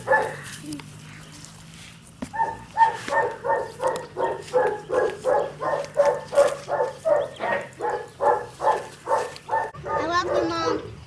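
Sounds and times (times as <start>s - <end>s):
dog barking: 0.0s - 0.4s, 2.3s - 10.9s.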